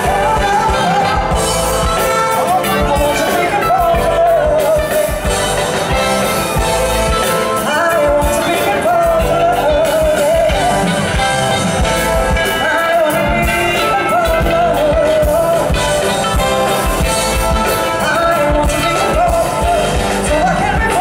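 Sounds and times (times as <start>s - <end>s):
woman singing: 0.0s - 5.4s, 7.5s - 11.3s, 12.3s - 21.0s
bass: 0.0s - 21.0s
drums: 0.0s - 21.0s.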